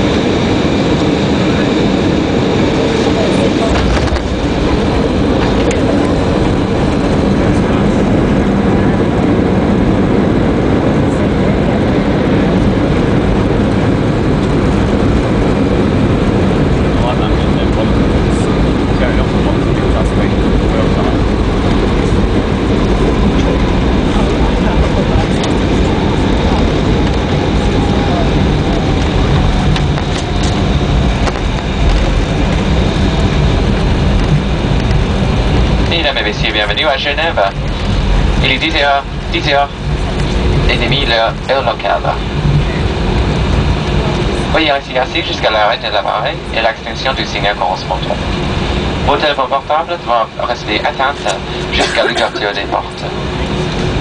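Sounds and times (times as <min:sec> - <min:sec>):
jet engines and rushing air: 0:00.0 - 0:54.0.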